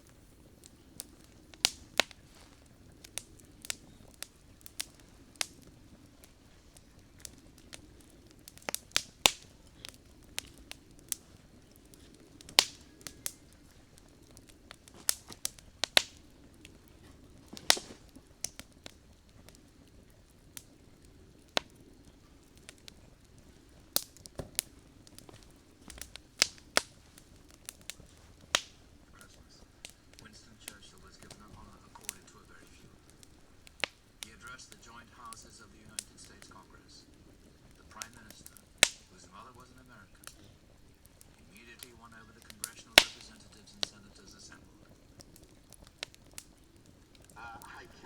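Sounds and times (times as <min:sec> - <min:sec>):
campfire crackling and popping: 0:00.0 - 0:48.0
faint low hiss: 0:00.0 - 0:48.0.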